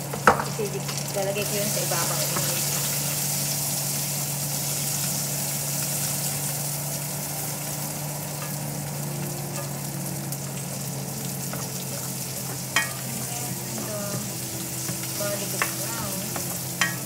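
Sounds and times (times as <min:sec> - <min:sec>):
onion sizzling in hot oil: 0:00.0 - 0:17.0
low hum: 0:00.4 - 0:17.0.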